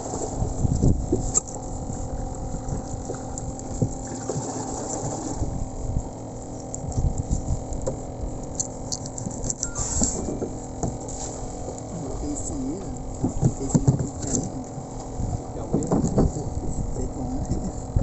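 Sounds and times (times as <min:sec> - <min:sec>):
engine humming: 0:00.0 - 0:18.0
low rumbling: 0:00.0 - 0:18.0.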